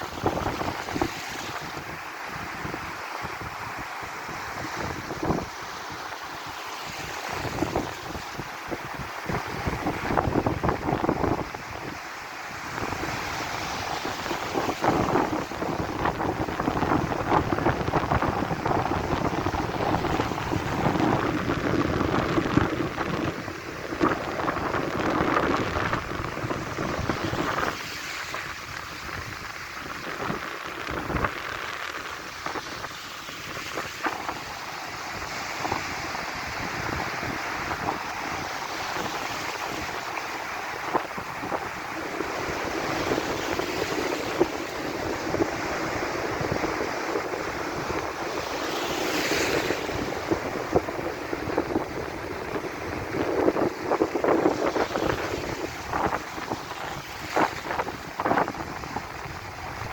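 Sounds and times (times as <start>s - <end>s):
sea waves washing onto beach: 0.0s - 59.9s
wind buffeting microphone: 0.0s - 59.9s.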